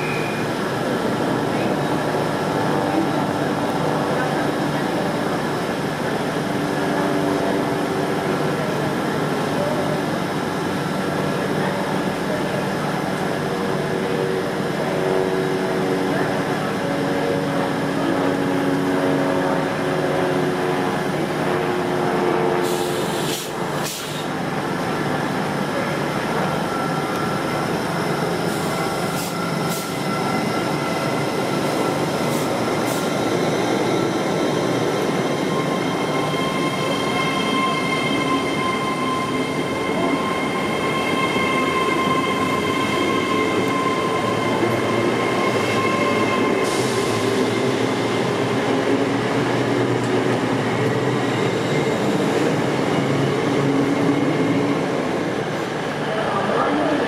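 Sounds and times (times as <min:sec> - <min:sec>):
diesel train rumble: 0:00.0 - 0:57.0
train whining tones: 0:00.0 - 0:57.0.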